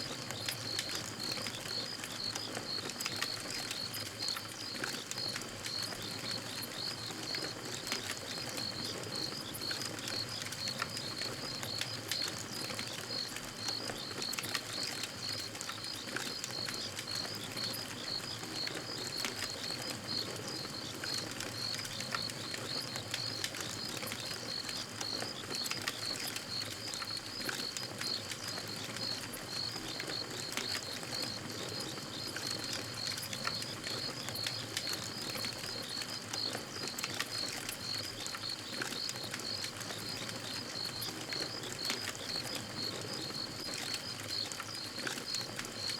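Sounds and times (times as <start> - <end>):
campfire crackling and popping: 0.1 - 45.9.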